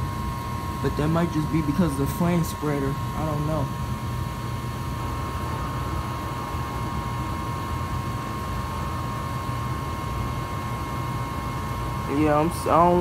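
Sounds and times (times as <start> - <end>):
gas furnace rumbling: 0.0 - 13.0
high whine: 0.0 - 13.0.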